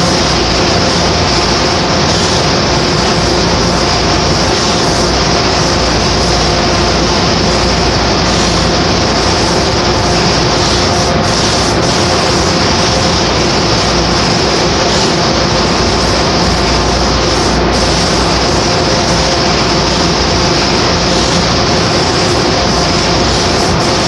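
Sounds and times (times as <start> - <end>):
extraction fan running: 0.0 - 24.0
spray gun hissing: 0.0 - 24.0.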